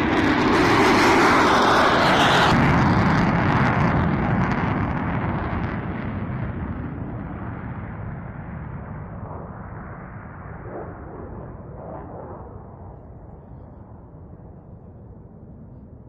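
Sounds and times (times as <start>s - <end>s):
fighter jet noise: 0.0s - 16.0s.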